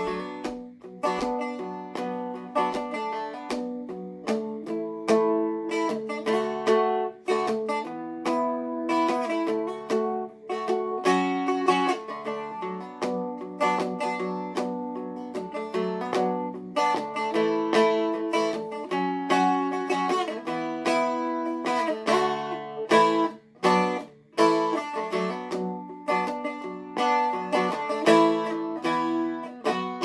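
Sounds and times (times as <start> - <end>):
picked stick dulcimer melody: 0.0 - 30.0.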